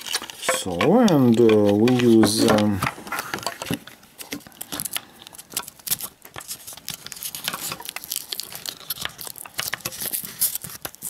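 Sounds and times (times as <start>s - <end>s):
paper tape crinkling and rustling: 0.0s - 11.0s.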